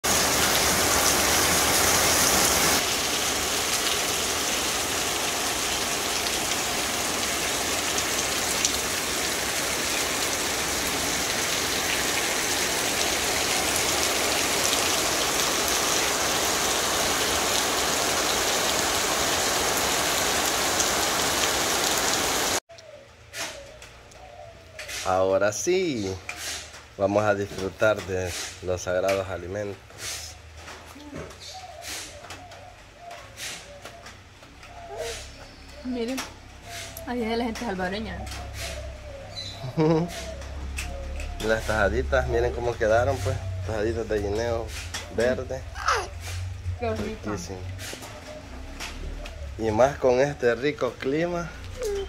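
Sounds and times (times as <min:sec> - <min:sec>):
heavy rain on street and roofs: 0:00.0 - 0:22.6, 0:25.0 - 0:52.0.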